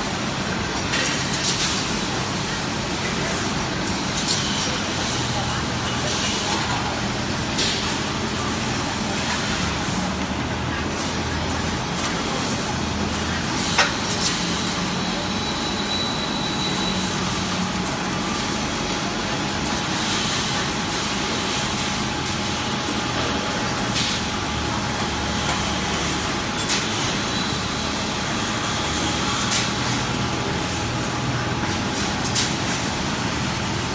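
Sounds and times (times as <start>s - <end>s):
welding machine running: 0.0s - 33.9s.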